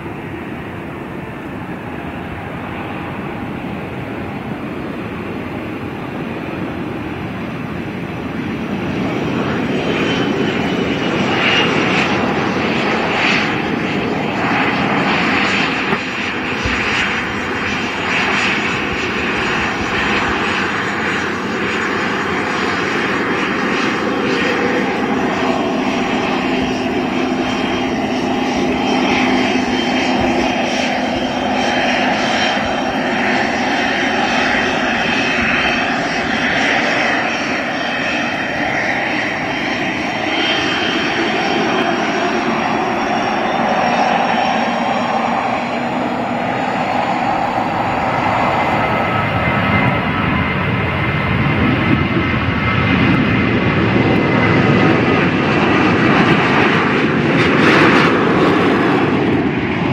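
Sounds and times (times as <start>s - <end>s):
airliner engines running: 0.0s - 59.9s.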